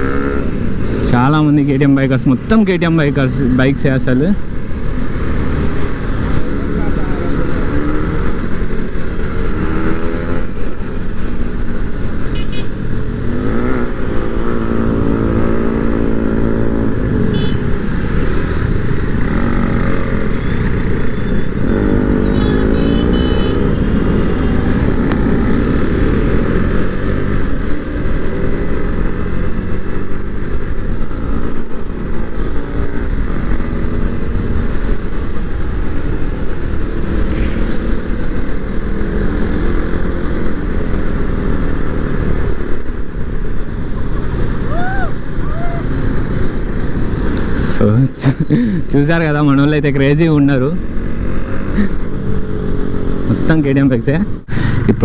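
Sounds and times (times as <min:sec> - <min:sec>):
constant rushing noise: 0:00.0 - 0:55.0
motorcycle engines revving: 0:00.0 - 0:55.0.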